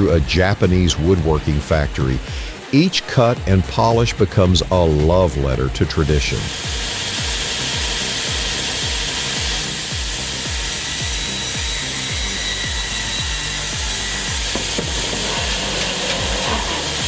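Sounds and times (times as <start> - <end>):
machine cutting wood hiss: 0.0 - 17.0
music with deep beat: 0.0 - 17.0.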